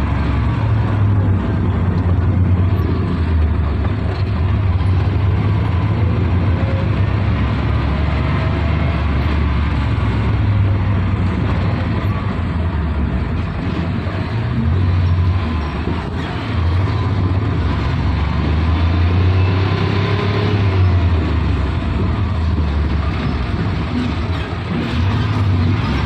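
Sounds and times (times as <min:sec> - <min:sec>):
low engine rumble: 0:00.0 - 0:26.0
road noise: 0:00.0 - 0:26.0.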